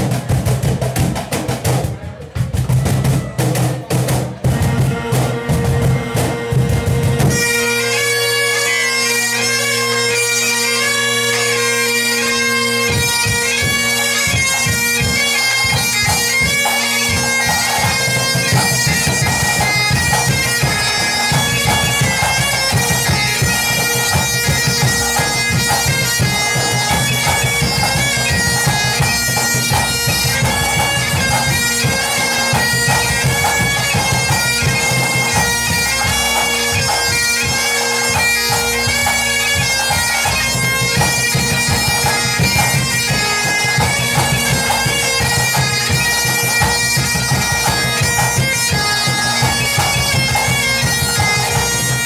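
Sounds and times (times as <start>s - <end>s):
drums beating: 0.0s - 8.7s, 12.1s - 52.0s
bagpipes melody with drones: 2.5s - 52.0s.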